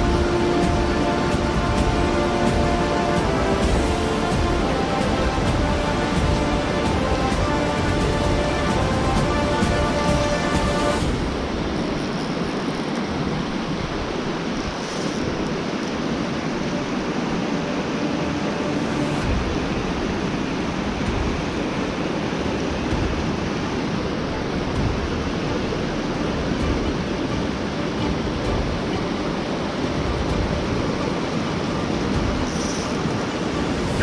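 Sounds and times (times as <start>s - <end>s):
creek water rushing over rocks: 0.0s - 34.0s.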